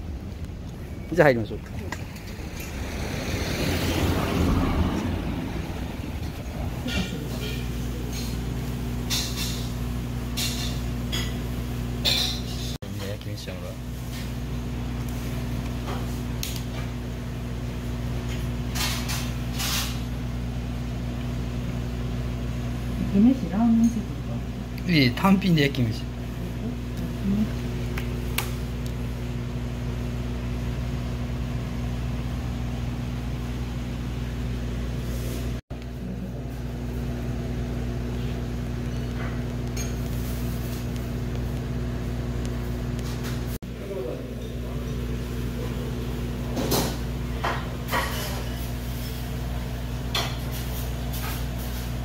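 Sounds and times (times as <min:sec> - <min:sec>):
low machine hum: 0:00.0 - 0:52.0.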